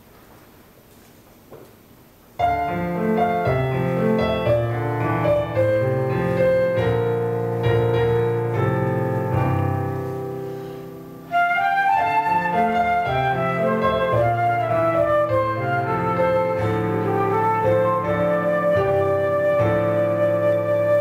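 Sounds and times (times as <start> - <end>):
digital piano chords: 2.3 - 21.0.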